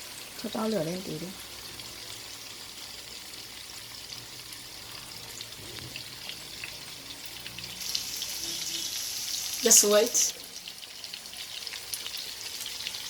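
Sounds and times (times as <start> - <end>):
tofu sizzling in oil: 0.0 - 13.0.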